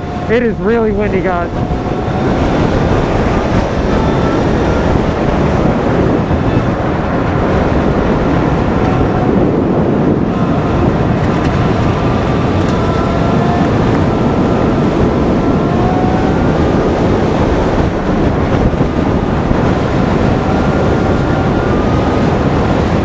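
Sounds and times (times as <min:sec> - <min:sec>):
electric motor whine: 0:00.0 - 0:23.0
wind buffeting microphone: 0:00.0 - 0:23.0.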